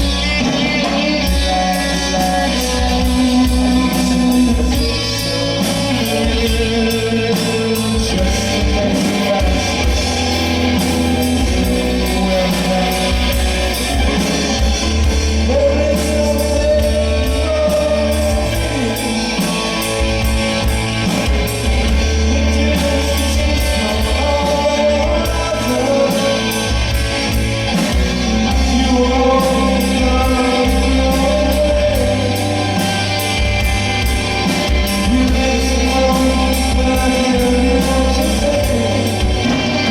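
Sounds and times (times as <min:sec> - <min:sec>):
bass: 0:00.0 - 0:39.9
live band music with singing: 0:00.0 - 0:39.9
steady drum beat: 0:00.0 - 0:39.9.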